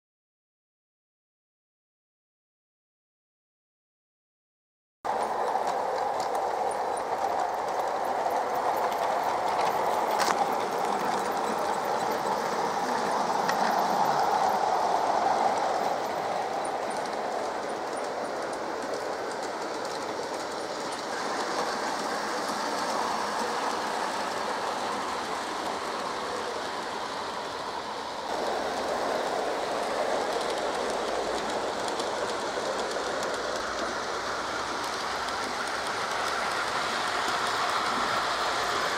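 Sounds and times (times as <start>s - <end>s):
model train wheels rattling on rails: 5.1s - 38.9s.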